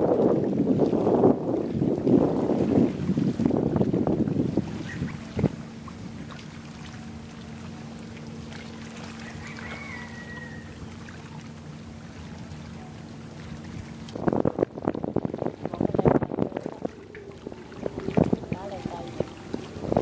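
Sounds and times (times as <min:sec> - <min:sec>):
wind buffeting microphone: 0:00.0 - 0:07.4, 0:08.3 - 0:20.0
boat engine droning: 0:00.0 - 0:20.0.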